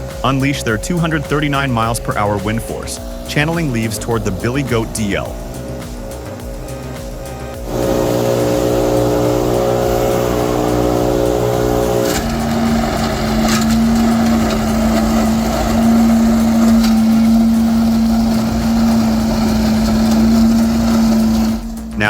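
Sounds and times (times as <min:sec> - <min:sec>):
debris loader droning: 0:00.0 - 0:22.0
leaf blowers running: 0:00.0 - 0:22.0.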